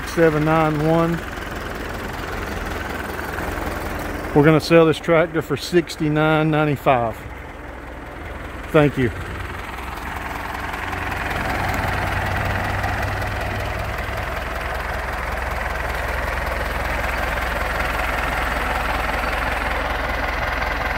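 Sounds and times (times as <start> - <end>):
diesel tractor engine idling: 0.0 - 20.9.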